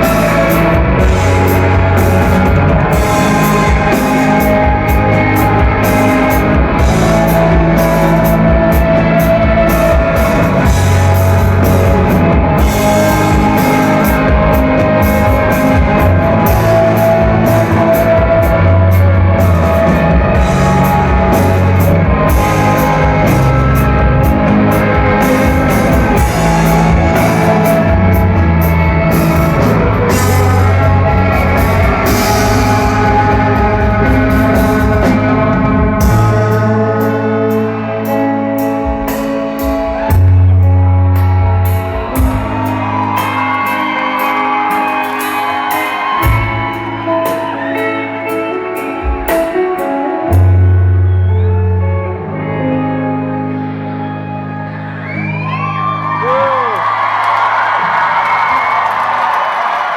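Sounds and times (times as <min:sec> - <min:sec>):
drum kit beat: 0:00.0 - 0:50.6
rock band playing: 0:00.0 - 0:59.9.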